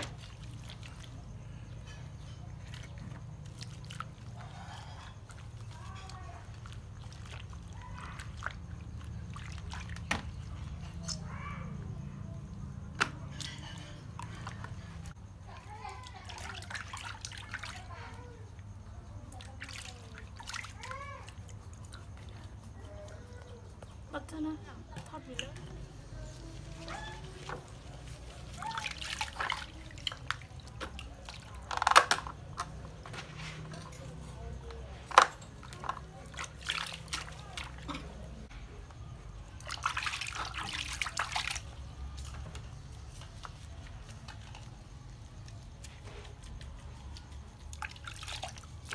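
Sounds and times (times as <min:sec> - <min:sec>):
water splashing in a basin: 0:00.0 - 0:48.9.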